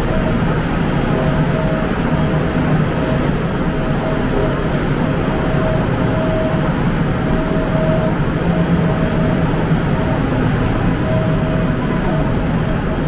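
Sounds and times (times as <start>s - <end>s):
faint whine: 0.0s - 13.0s
subway train rumbling: 0.0s - 13.0s.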